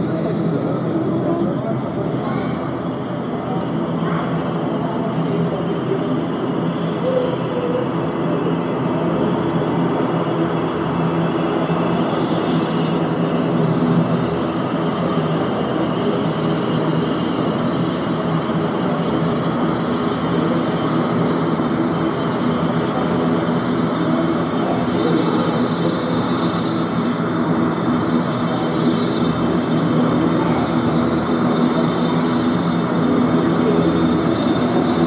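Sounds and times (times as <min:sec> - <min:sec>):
propeller drone: 0:00.0 - 0:35.0
thin high engine whine: 0:00.0 - 0:35.0.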